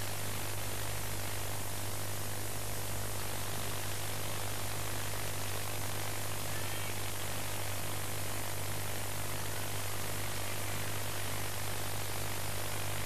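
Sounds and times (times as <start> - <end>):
low electrical hum: 0.0 - 13.0
static hiss: 0.0 - 13.0.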